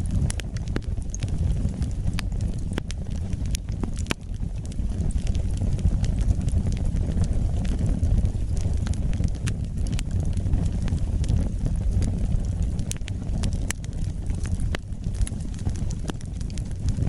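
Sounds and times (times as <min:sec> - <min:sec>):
fire crackles and pops: 0:00.0 - 0:17.0
low rumble of flames: 0:00.0 - 0:17.0.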